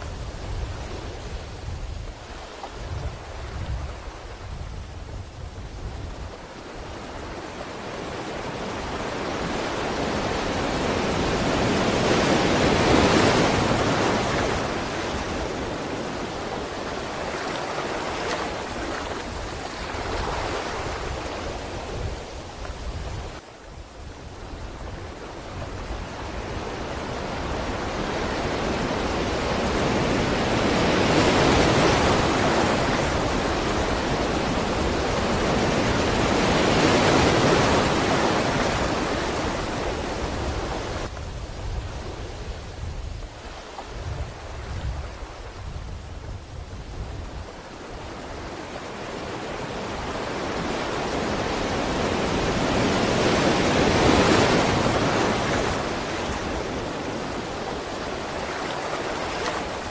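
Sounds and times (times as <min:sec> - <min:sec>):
sea waves washing onto shore: 0:00.0 - 0:59.9.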